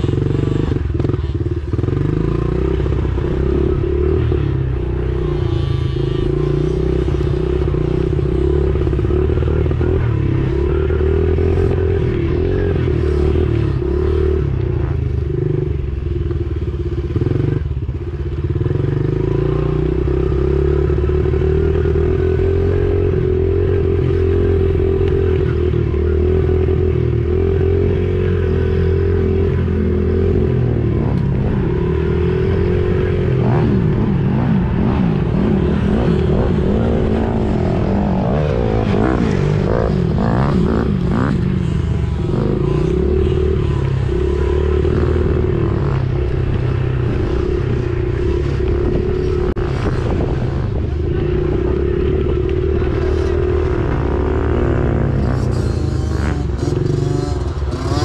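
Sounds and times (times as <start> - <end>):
small motorcycle engine revving: 0.0 - 16.0, 16.7 - 58.0.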